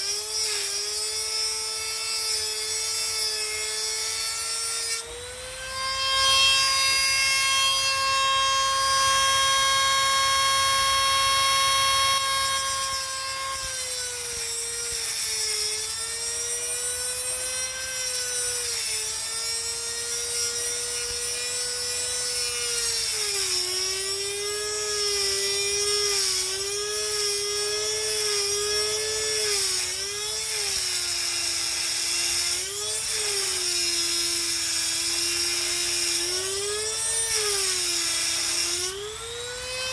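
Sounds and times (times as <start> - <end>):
small power tool whining: 0.0 - 39.9.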